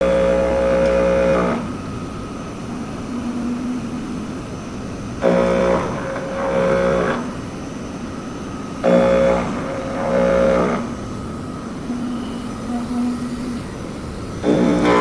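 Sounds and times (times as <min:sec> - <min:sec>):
machine whir: 0:00.0 - 0:15.0
machining center humming: 0:00.0 - 0:15.0.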